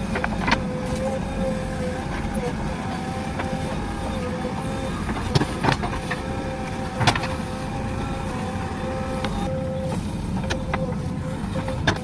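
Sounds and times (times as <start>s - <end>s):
diesel engine running: 0.0s - 12.0s
high steady whine: 0.0s - 12.0s.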